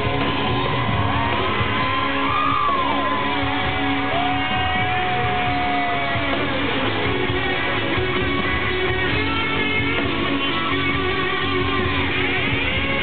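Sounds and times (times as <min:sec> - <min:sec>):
live country band playing: 0:00.0 - 0:13.0.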